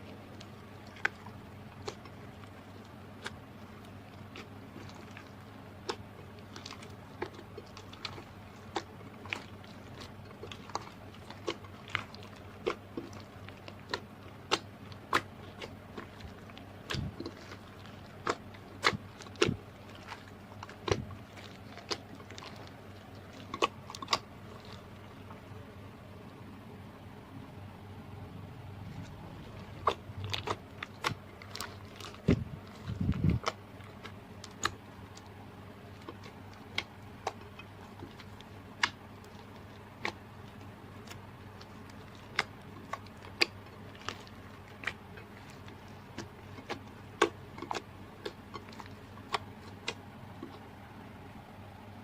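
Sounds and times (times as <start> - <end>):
low slime squelch: 0.0 - 52.0.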